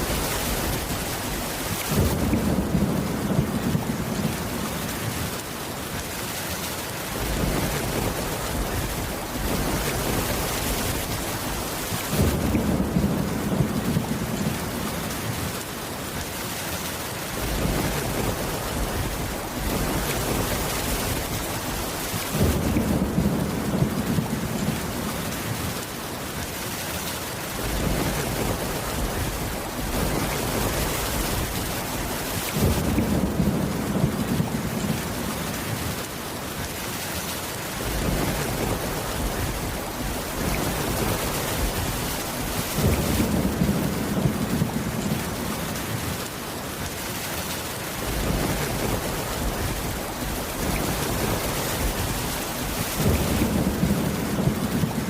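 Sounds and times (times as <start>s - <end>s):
thunder rumbling: 0.0s - 5.5s, 7.1s - 15.7s, 17.3s - 25.9s, 27.5s - 36.2s, 37.7s - 46.3s, 48.0s - 55.0s
heavy rain: 0.0s - 55.0s.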